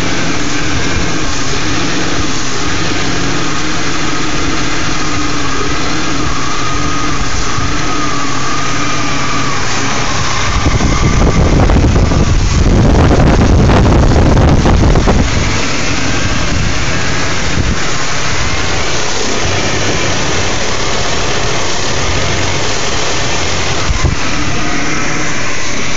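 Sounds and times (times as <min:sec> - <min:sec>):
car engine idling roughly: 0:00.0 - 0:25.9.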